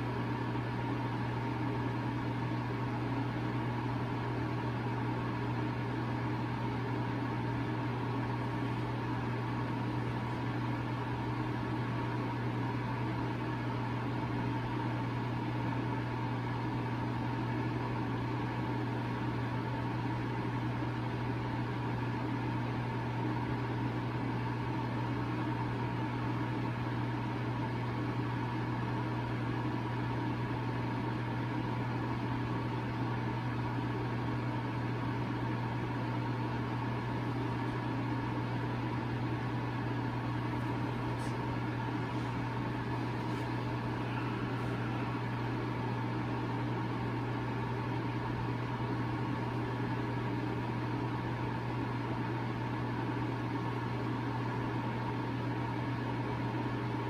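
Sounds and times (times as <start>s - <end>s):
machine hum with hiss: 0.0s - 53.2s.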